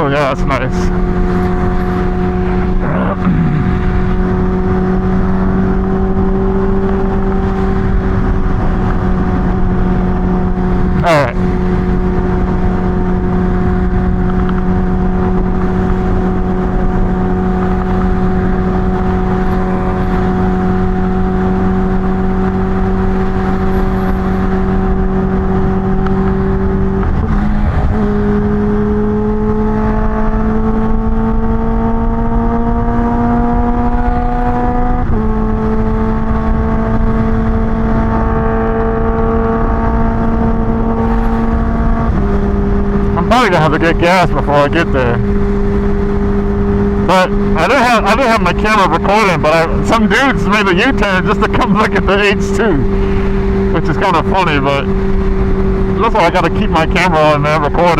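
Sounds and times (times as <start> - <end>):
low wind rumble: 0.0 - 57.9
motorcycle engine cruising: 0.0 - 57.9.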